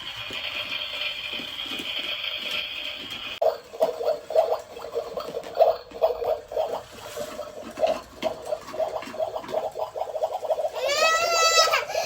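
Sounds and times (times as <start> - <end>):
small water pump humming: 0.0 - 12.0
water gurgling in spurts: 0.0 - 12.0.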